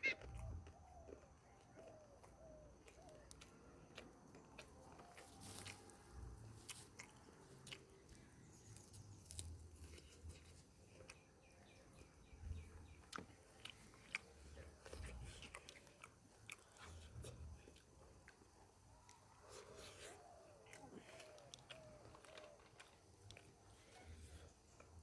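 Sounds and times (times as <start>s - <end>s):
close-up chewing: 0.0s - 25.0s.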